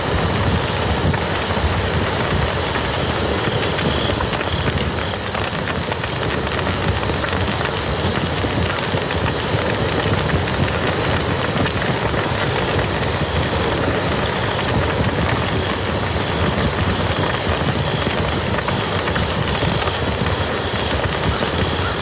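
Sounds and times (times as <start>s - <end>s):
river rushing: 0.0s - 21.0s
campfire crackling: 0.0s - 22.0s.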